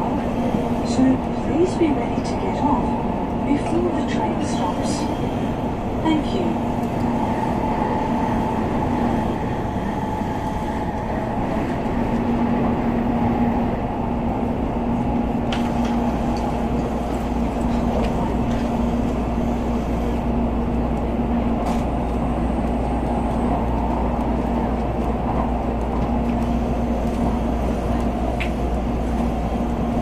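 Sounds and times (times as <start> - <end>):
train cabin rumble: 0.0 - 30.0.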